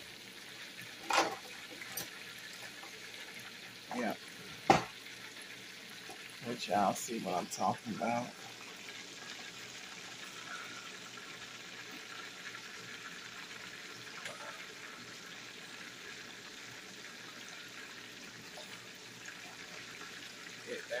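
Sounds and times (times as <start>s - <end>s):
oil bubbling and sizzling: 0.0s - 21.0s.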